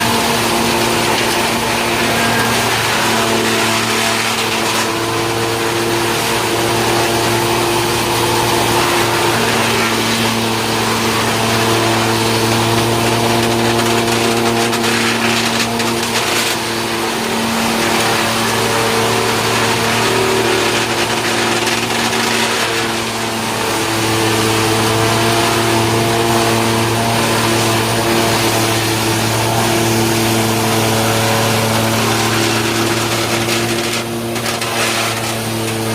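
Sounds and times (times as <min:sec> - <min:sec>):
engine hum: 0:00.0 - 0:35.9
wood chipper grinding: 0:00.0 - 0:35.9.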